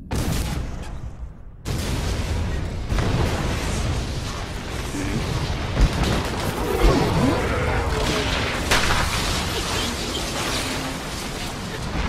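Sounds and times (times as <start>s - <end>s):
heavy rumbling with blasts: 0.0s - 12.0s
sharp crack: 1.7s - 12.0s.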